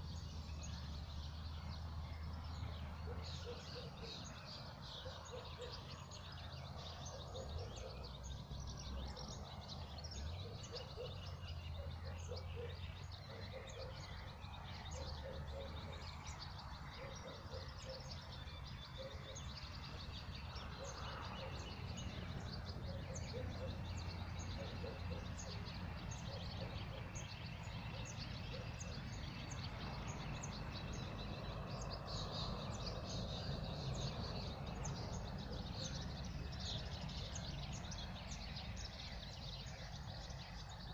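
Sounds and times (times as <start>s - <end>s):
wild birds chirping and singing: 0.0s - 40.9s.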